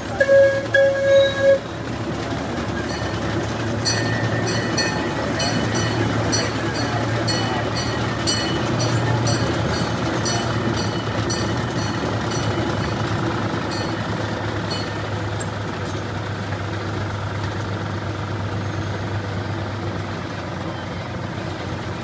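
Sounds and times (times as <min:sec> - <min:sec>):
train rolling rumble: 0:00.0 - 0:22.0.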